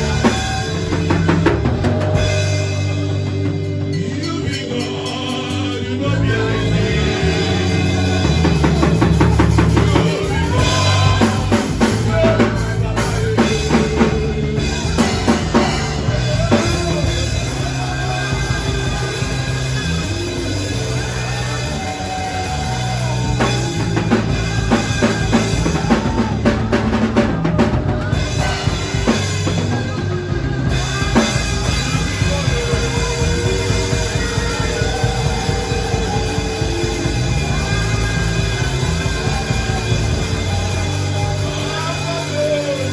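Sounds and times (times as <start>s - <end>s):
band music: 0.0s - 42.9s
drum kit beat: 0.0s - 42.9s.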